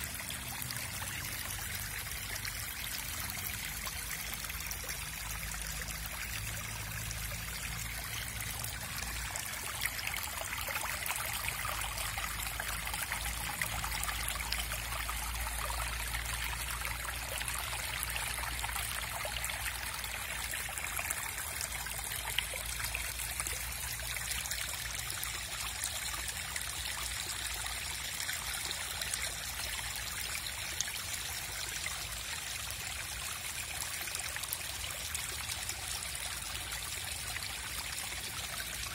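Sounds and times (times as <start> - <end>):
rainwater running and trickling: 0.0 - 38.9.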